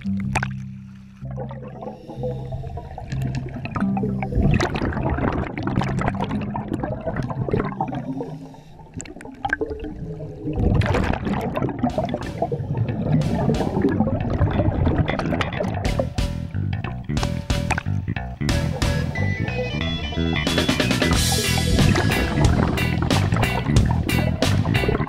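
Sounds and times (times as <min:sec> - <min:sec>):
underwater bubbling and gurgling: 0:00.0 - 0:16.3, 0:21.2 - 0:25.0.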